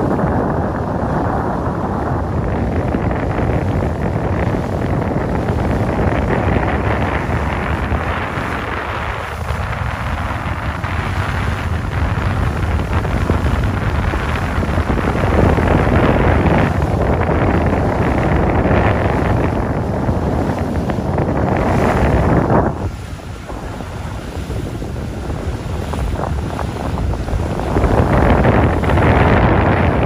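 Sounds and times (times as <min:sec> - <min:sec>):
boat running noise: 0:00.0 - 0:30.0
rushing water: 0:00.0 - 0:30.0
wind buffeting microphone: 0:00.0 - 0:30.0.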